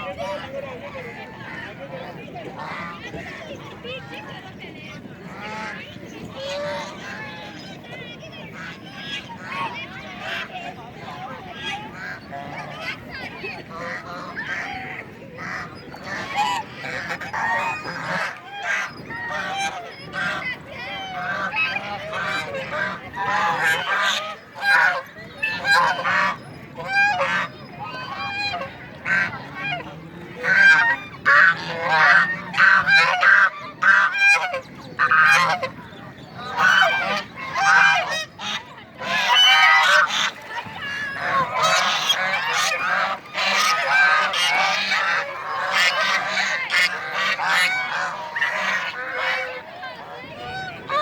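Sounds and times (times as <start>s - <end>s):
ducks quacking: 0.0s - 51.0s.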